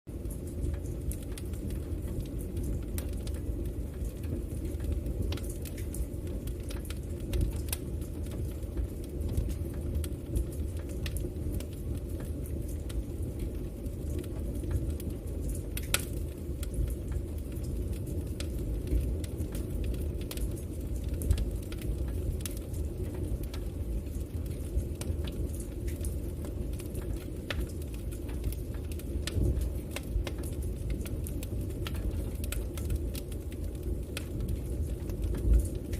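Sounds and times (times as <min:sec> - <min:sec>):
fire crackling and popping: 0:00.1 - 0:35.9
low fire rumble: 0:00.1 - 0:35.9.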